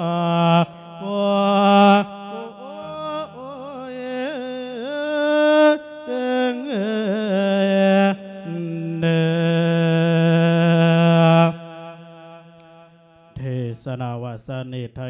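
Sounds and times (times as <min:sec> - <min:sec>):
monk chanting through a microphone: 0:00.0 - 0:12.6, 0:13.3 - 0:15.0.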